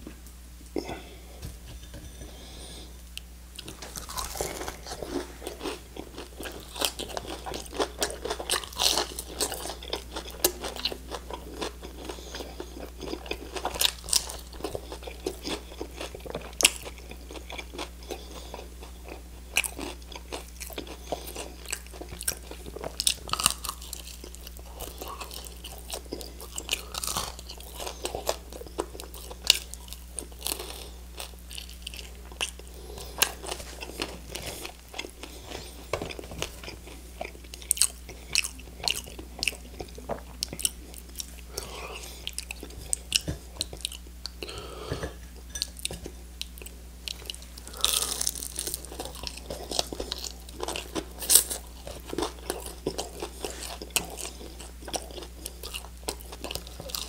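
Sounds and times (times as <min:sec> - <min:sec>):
steady low hum: 0:00.0 - 0:57.0
crunching fried chicken: 0:03.6 - 0:44.6, 0:45.8 - 0:57.0.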